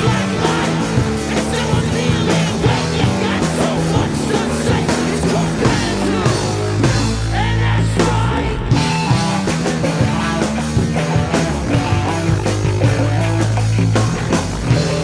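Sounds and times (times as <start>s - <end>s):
rock music with drums and bass: 0.0s - 15.0s.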